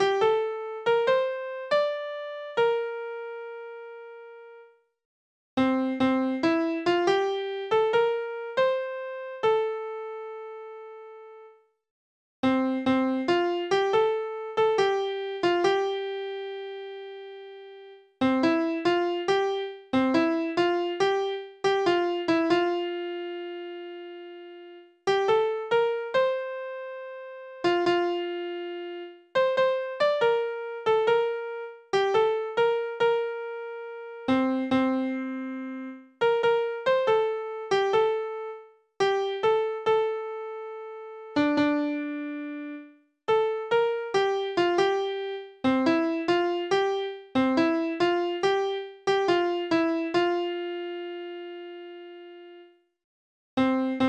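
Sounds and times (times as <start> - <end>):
electric piano hymn melody: 0.0 - 4.6, 5.6 - 11.4, 12.4 - 52.6, 53.6 - 54.0.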